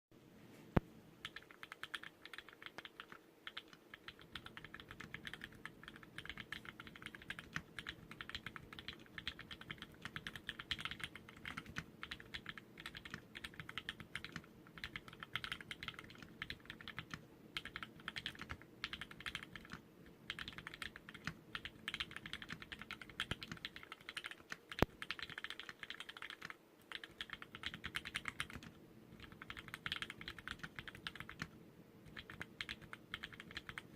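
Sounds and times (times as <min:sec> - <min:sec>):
mechanical keyboard typing: 0:01.2 - 0:33.9.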